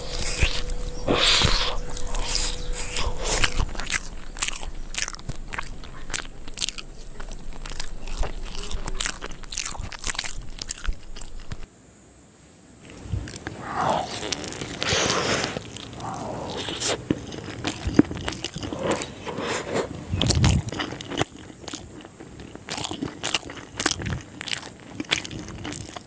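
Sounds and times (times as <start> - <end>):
crunchy chewing of fried chicken: 0.0 - 11.7, 12.9 - 26.0.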